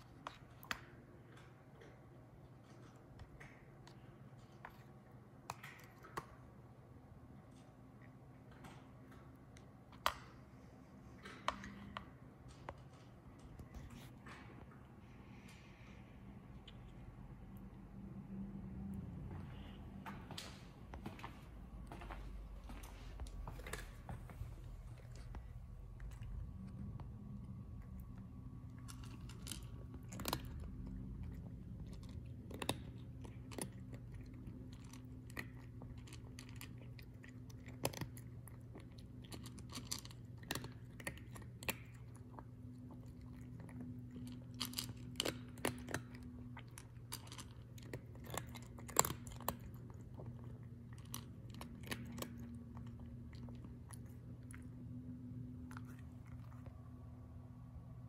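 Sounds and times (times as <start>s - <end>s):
cat crunching dry kibble: 0.0s - 19.6s, 22.5s - 57.0s
steady low hum: 0.0s - 58.0s.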